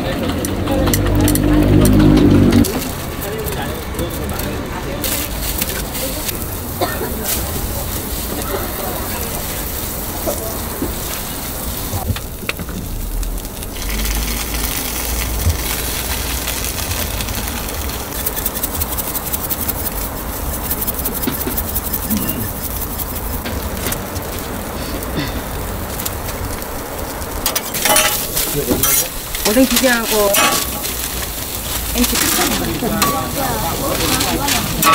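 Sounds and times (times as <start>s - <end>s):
griddle sizzling: 0.0s - 34.9s.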